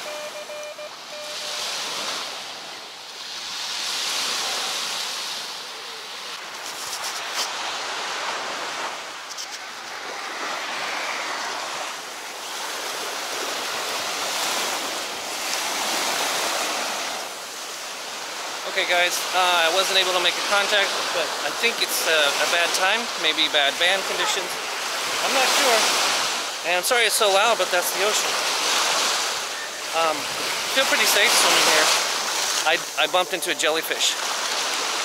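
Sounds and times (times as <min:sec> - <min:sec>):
waves breaking on beach: 0:00.0 - 0:35.0.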